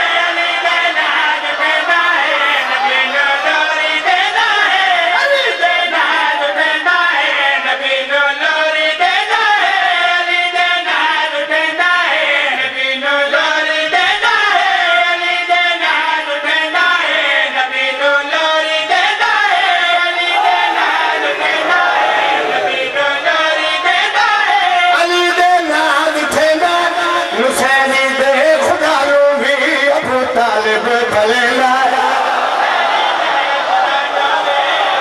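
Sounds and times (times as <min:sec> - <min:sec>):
men chanting into microphone: 0:00.0 - 0:35.0.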